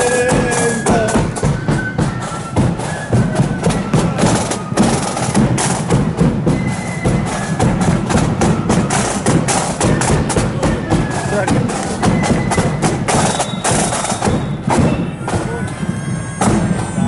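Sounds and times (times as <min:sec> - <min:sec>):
flute notes: 0:00.0 - 0:17.0
snare drumming: 0:00.0 - 0:17.0.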